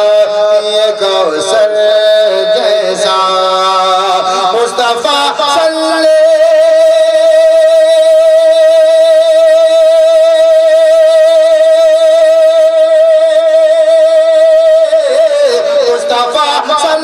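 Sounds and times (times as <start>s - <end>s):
man singing long high note: 0.0s - 17.0s.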